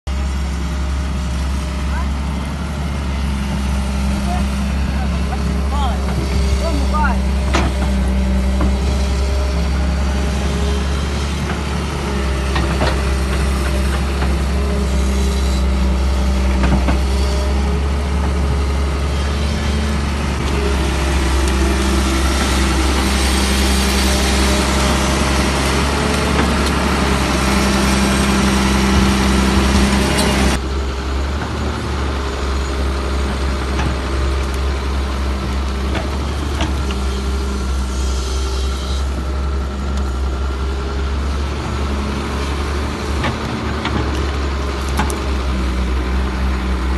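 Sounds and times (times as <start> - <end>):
diesel engine rumbling: 0.0 - 46.9.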